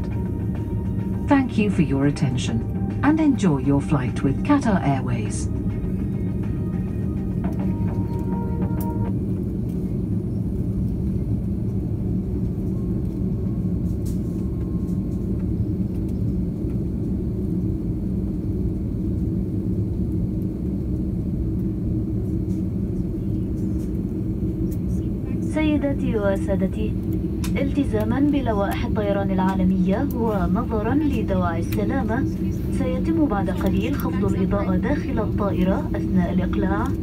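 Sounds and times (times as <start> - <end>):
airliner cabin rumble: 0.0 - 37.0
faint hum: 0.0 - 37.0.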